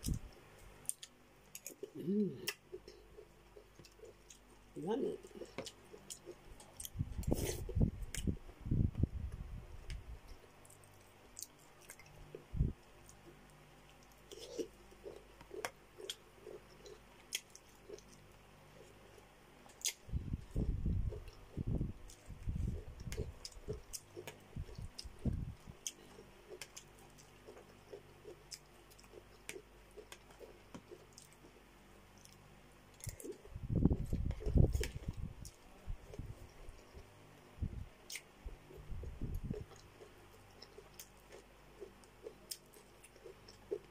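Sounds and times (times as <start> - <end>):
chewing and wet mouth sounds: 0.0 - 43.9.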